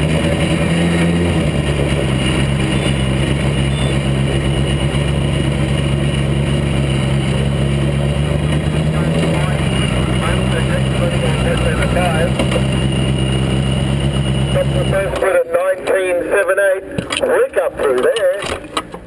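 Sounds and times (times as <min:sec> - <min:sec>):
racing car engine at low revs: 0:00.0 - 0:19.0.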